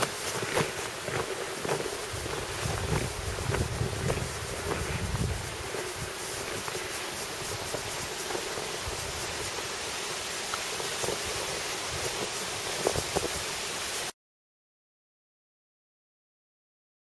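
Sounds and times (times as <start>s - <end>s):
wind hissing across microphone: 0.0s - 14.1s.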